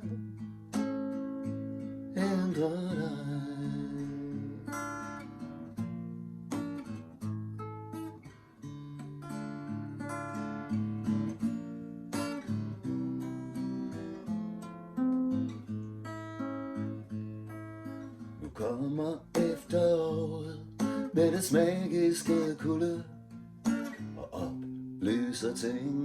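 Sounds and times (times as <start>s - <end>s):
acoustic guitar strumming and picking: 0.0s - 26.0s.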